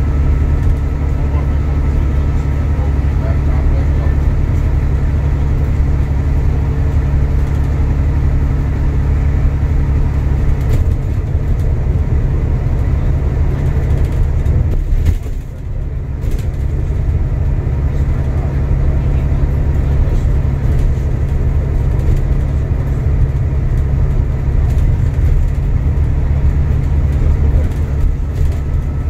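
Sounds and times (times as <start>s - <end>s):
bus diesel engine rumble: 0.0s - 29.0s
road noise: 0.0s - 29.0s.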